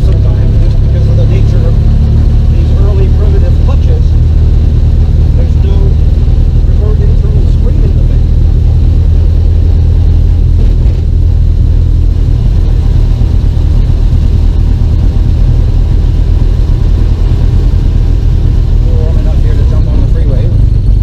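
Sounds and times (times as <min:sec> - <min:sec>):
car engine running inside cabin: 0:00.0 - 0:21.0.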